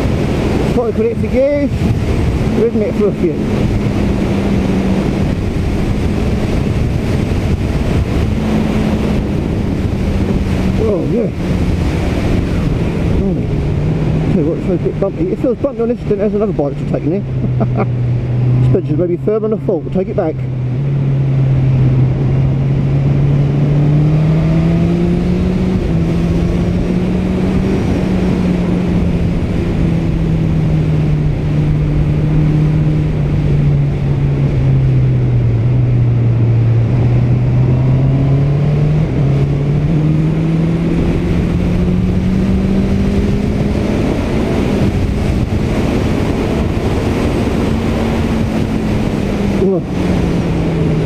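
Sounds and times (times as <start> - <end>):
motorcycle engine at road speed: 0.0 - 51.0
wind noise on microphone: 0.0 - 51.0.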